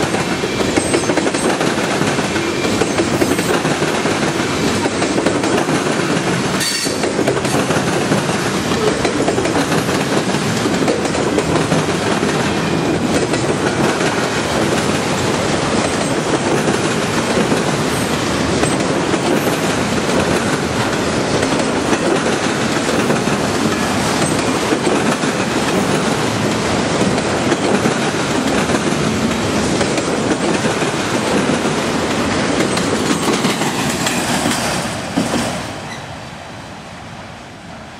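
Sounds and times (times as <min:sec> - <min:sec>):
steel wheels rumbling on rail: 0:00.0 - 0:37.9.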